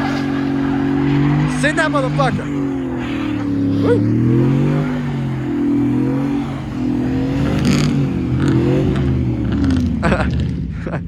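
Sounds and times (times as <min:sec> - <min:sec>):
vehicle engine revving hard: 0:00.0 - 0:10.9.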